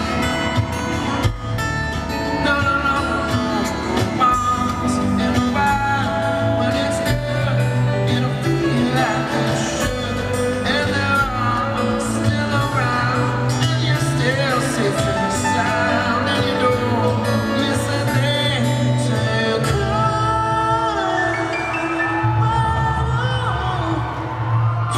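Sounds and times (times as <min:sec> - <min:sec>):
acoustic guitar: 0:00.0 - 0:24.9
bass and band backing: 0:00.0 - 0:24.9
man singing: 0:00.0 - 0:24.9.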